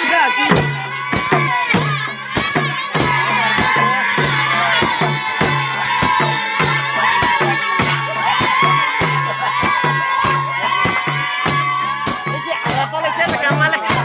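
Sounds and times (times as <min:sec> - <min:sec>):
crowd voices: 0:00.0 - 0:14.0
drum beating steady rhythm: 0:00.0 - 0:14.0
people singing: 0:00.0 - 0:14.0.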